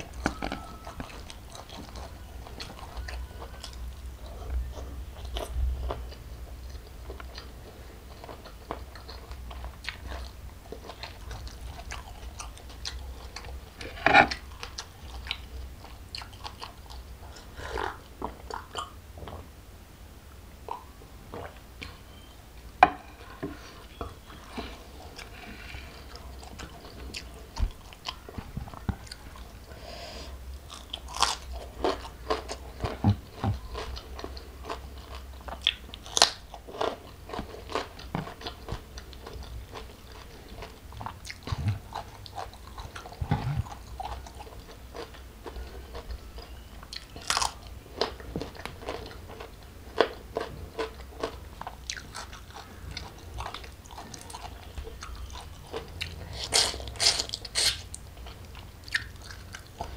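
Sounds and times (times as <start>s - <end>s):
person chewing crunchy food: 0.0s - 19.5s, 23.0s - 59.9s.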